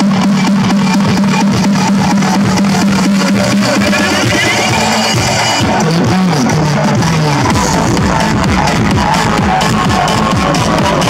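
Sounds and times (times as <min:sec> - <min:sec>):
loud bass-heavy car music: 0:00.0 - 0:11.0.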